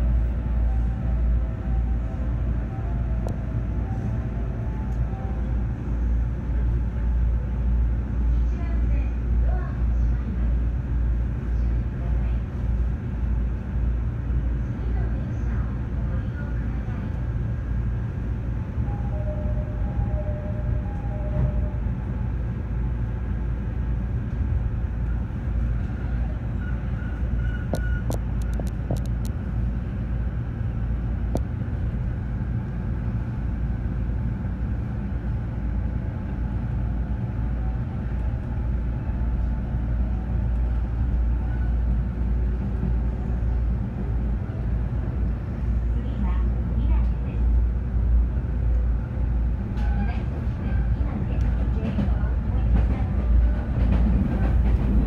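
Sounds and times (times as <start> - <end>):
train car rumble: 0.0 - 55.0.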